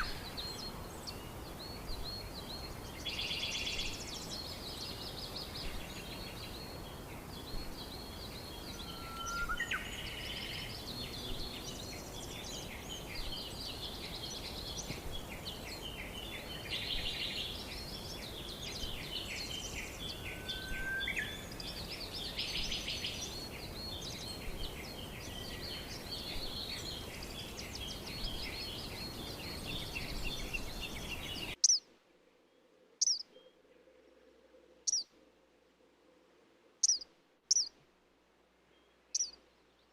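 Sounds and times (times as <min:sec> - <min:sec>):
small birds chirping and trilling: 0:00.0 - 0:31.9, 0:32.5 - 0:35.2, 0:36.8 - 0:37.8, 0:38.7 - 0:39.9
background hiss: 0:00.0 - 0:39.9.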